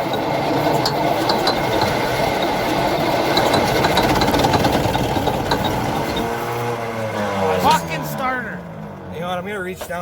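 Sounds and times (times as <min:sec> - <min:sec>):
truck engine cranking on starter: 0:00.0 - 0:10.0.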